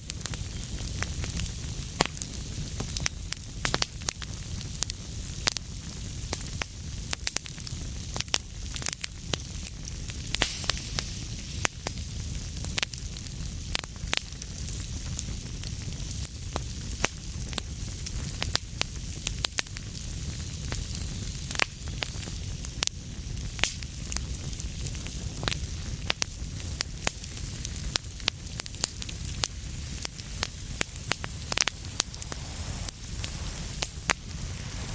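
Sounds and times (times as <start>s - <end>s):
fire crackling and popping: 0.0s - 34.9s.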